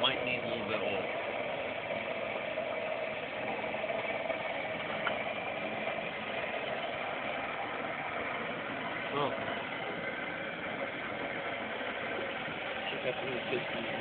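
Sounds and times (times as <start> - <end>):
engine display mechanical whir: 0.0 - 14.0.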